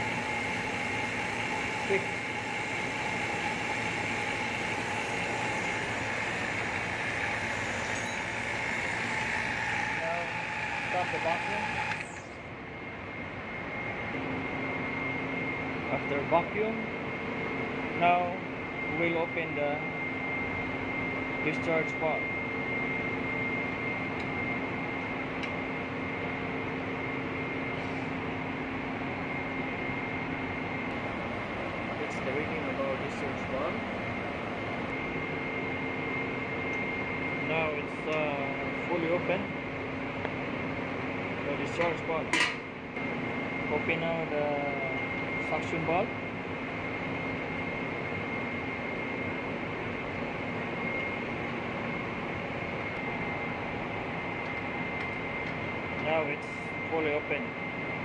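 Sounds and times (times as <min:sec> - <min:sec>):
faint steady whine: 0:00.0 - 0:58.0
machinery humming: 0:00.0 - 0:58.0.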